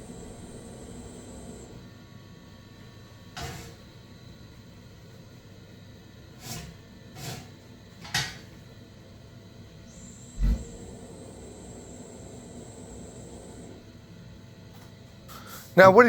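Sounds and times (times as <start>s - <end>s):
faint high whine: 0.0s - 6.2s, 8.5s - 16.0s.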